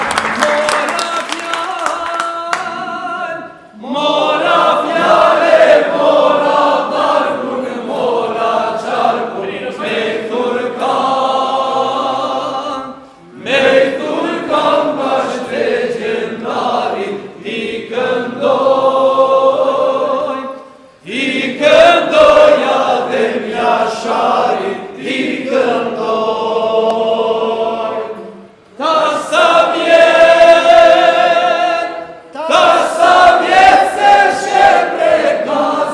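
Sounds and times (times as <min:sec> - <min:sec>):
group singing unaccompanied: 0:01.1 - 0:35.9.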